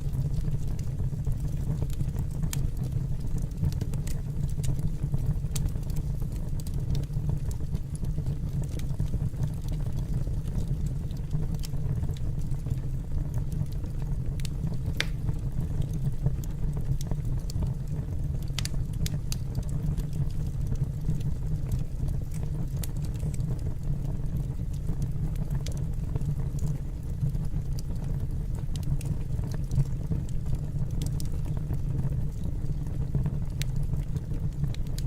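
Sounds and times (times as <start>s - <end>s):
low fire rumble: 0.0s - 35.0s
wood fire crackling and popping: 0.0s - 35.0s.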